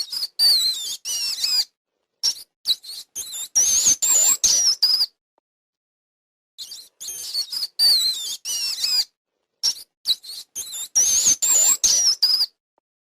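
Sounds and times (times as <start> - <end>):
small animal squeaking: 0.0 - 5.2, 6.6 - 12.6.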